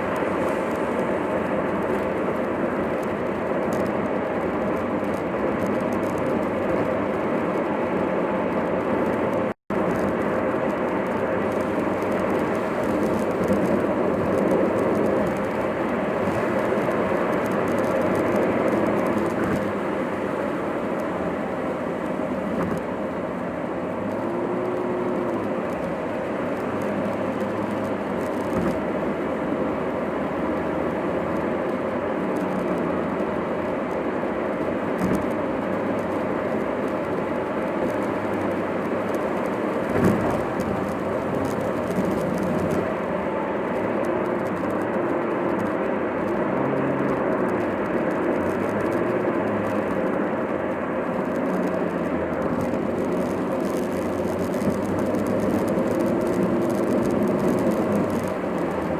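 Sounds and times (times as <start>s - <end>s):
road and engine noise: 0.0s - 58.9s.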